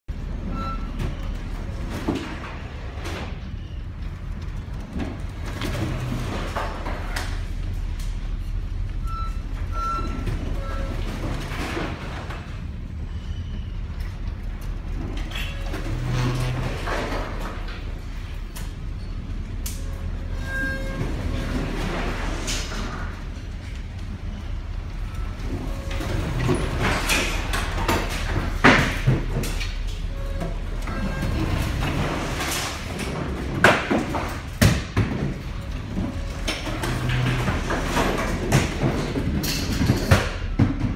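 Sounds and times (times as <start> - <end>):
ship engine low rumble: 0.1 - 40.9.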